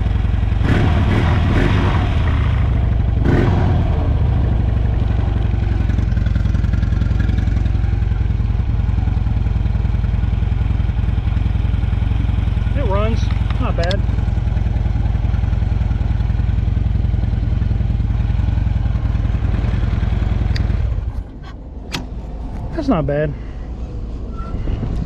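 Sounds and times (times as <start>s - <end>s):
motorcycle engine idling: 0.0s - 1.5s, 2.2s - 22.3s.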